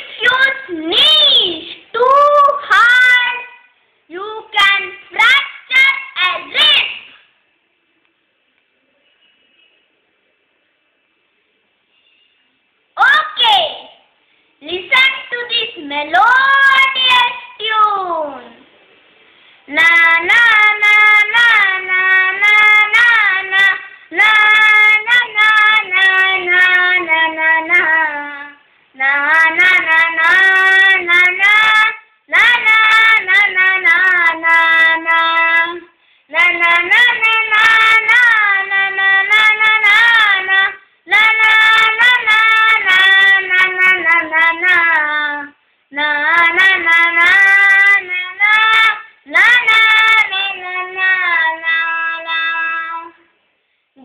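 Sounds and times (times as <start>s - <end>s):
child singing unaccompanied: 0.0s - 7.4s, 13.0s - 18.6s, 19.6s - 53.3s.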